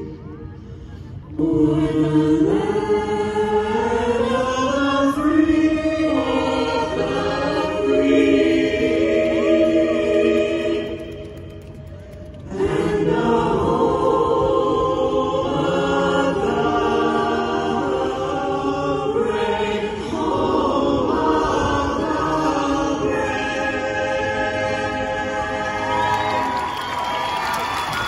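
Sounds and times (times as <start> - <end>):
vocal group singing in harmony: 0.0 - 28.0.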